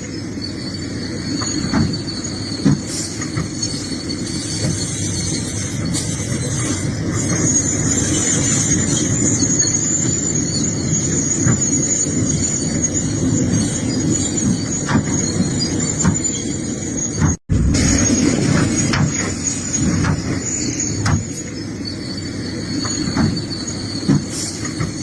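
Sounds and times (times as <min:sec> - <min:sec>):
excavator engine rumbling: 0:00.0 - 0:25.0
high-pitched metallic squeal: 0:00.0 - 0:25.0.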